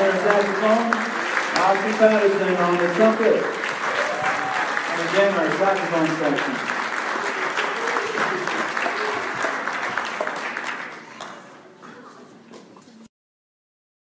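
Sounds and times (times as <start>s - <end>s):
audience applauding: 0.0s - 11.6s
voices in crowd: 0.0s - 12.5s.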